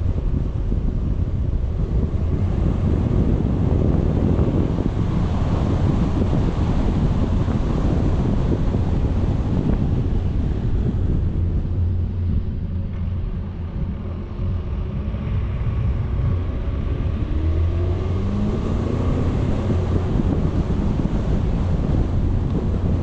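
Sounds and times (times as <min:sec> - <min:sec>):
vehicle engine rumble: 0:00.0 - 0:23.0
wind buffeting microphone: 0:00.0 - 0:23.0.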